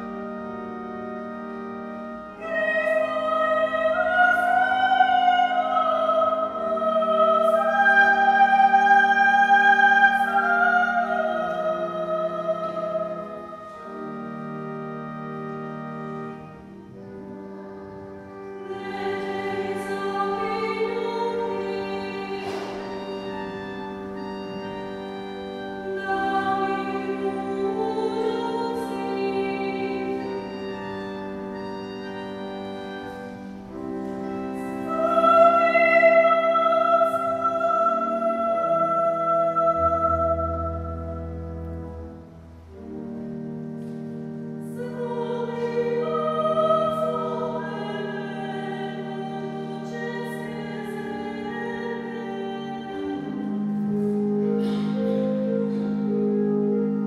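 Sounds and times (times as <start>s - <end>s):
woman singing a hymn: 0.0s - 43.3s, 43.9s - 57.0s
church organ chords: 0.0s - 57.0s.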